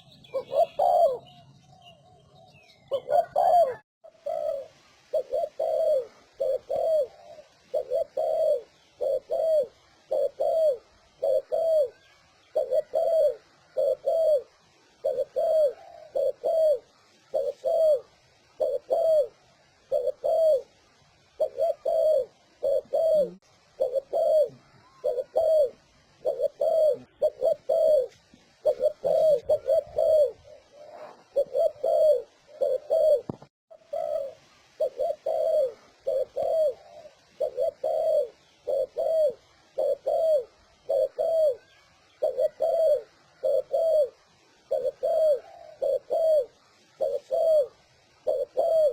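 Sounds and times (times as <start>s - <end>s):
dove cooing: 0.0s - 1.5s, 2.4s - 48.9s.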